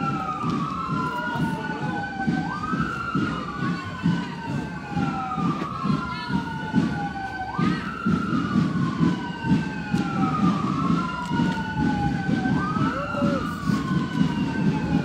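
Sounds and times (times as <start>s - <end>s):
emergency sirens wailing: 0.0s - 15.0s.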